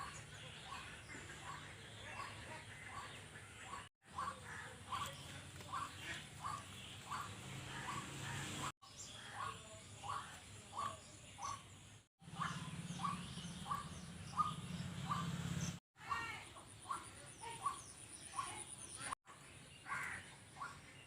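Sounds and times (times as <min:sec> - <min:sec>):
bird calling: 0:00.0 - 0:19.2.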